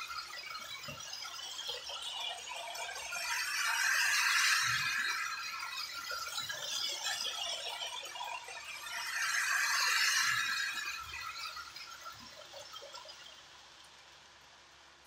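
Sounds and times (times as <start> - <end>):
toy train wheels and motor: 0.0 - 14.2.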